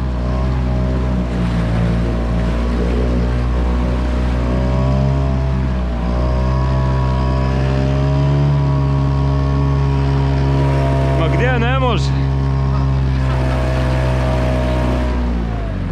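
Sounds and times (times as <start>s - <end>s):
outboard motor droning: 0.0s - 15.9s.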